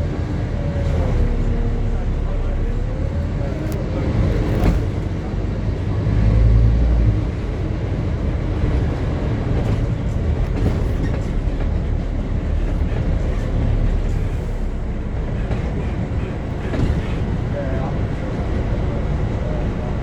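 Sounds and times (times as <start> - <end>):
bus diesel engine drone: 0.0 - 20.0
road rumble with rattling: 0.0 - 20.0.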